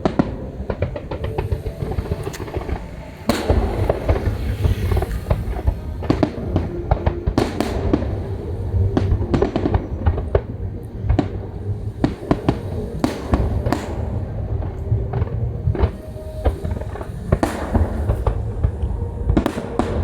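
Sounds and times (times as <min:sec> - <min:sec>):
constant low rumble: 0:00.0 - 0:20.0
fireworks bangs and crackles: 0:00.0 - 0:20.0.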